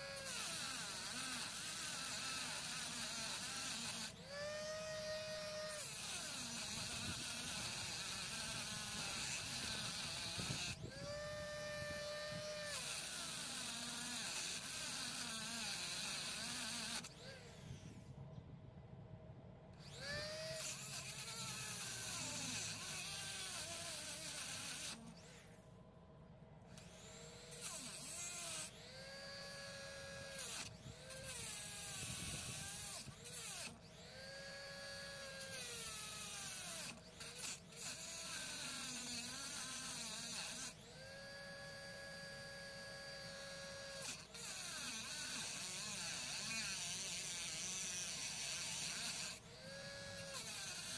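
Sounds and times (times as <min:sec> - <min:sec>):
rotary tool cutting steel: 0:00.0 - 0:18.2, 0:19.7 - 0:50.9.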